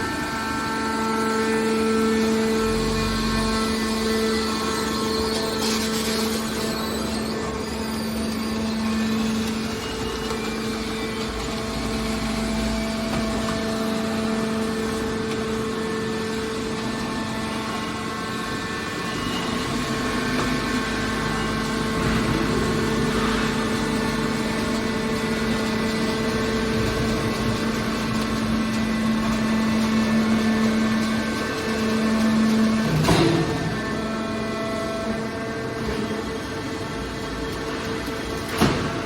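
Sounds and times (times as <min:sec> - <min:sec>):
heavy machinery droning: 0:00.0 - 0:39.0.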